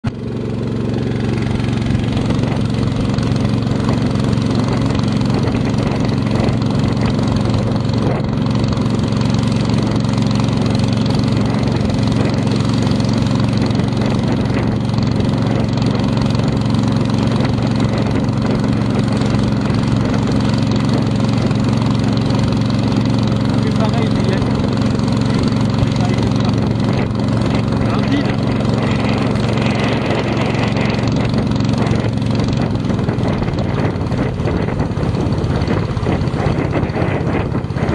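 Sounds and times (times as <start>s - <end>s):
motorboat engine hum: 0.0s - 37.9s.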